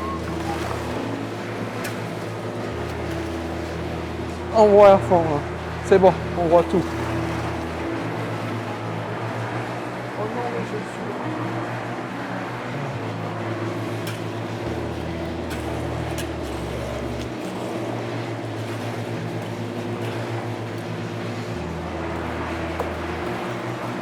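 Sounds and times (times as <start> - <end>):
engine running steadily: 0.0 - 24.0
low bass line: 0.0 - 24.0.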